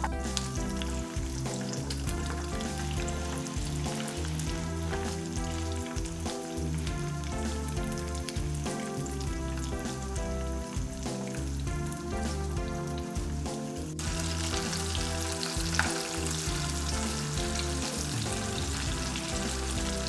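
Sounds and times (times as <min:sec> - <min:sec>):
background music of held notes: 0:00.0 - 0:20.0
oil sizzling in a pan: 0:00.0 - 0:20.0.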